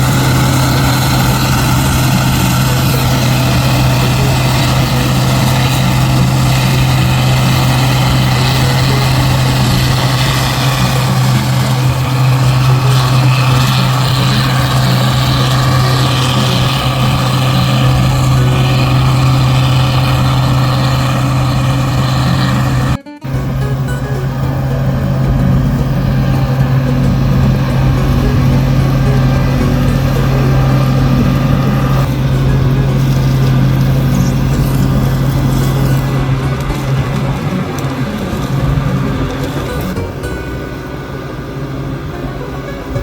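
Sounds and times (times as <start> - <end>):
combine harvester running: 0.0 - 43.0.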